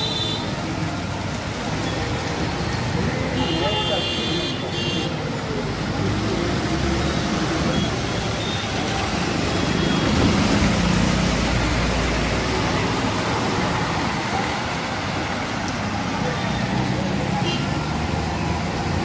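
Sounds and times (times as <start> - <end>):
road traffic hiss: 0.0 - 19.0.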